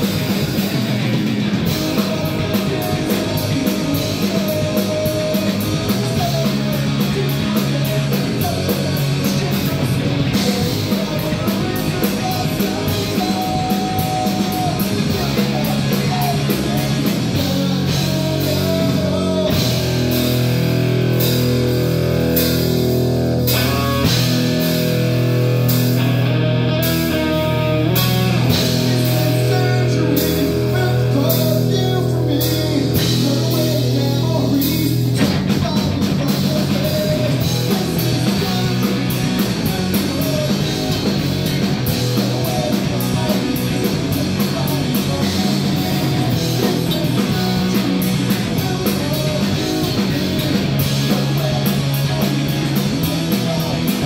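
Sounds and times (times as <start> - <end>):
rock band playing live: 0.0 - 54.0
person singing: 1.6 - 20.5, 26.0 - 54.0.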